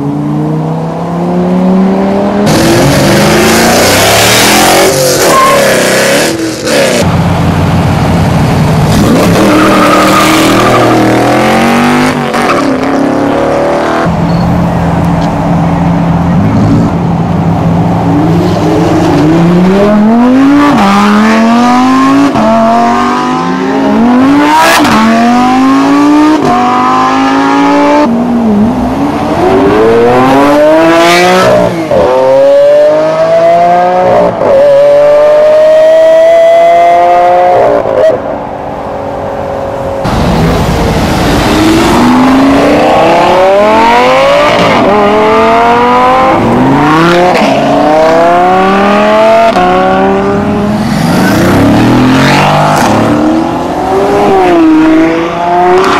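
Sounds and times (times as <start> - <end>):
sports cars accelerating hard: 0.0 - 38.6, 39.4 - 55.9.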